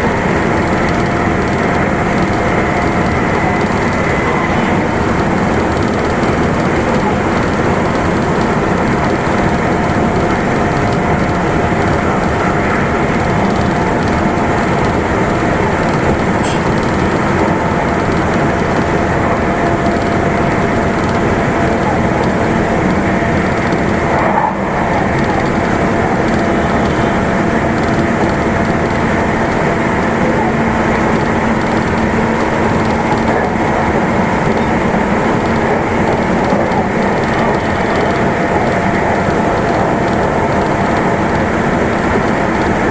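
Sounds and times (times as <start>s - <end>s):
wheels rumbling on rail: 0.0s - 42.9s.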